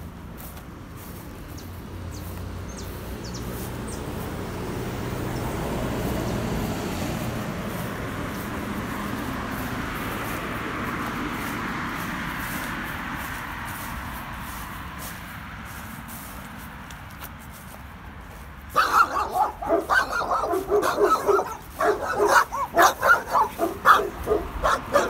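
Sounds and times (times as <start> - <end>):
road traffic noise: 0.0 - 25.0
vehicle passing: 0.0 - 25.0.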